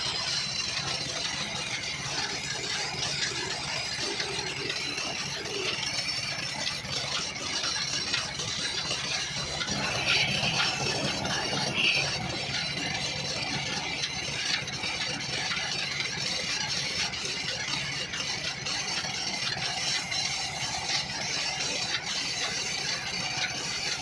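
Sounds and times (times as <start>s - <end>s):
wood lathe running: 0.0s - 24.0s.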